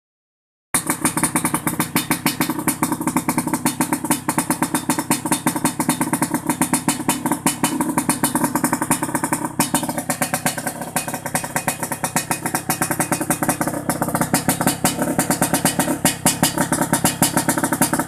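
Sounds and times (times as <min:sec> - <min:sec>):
two-stroke motorcycle idling: 0:00.8 - 0:18.0.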